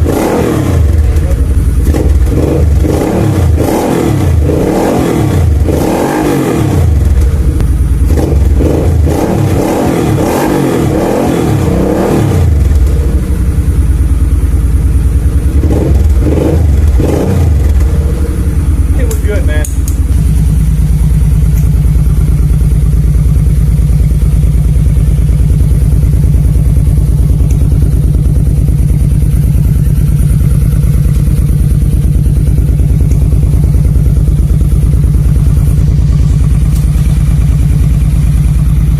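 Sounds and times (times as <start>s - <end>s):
engine idling through exhaust: 0.0s - 5.8s, 6.6s - 9.6s, 11.6s - 38.9s.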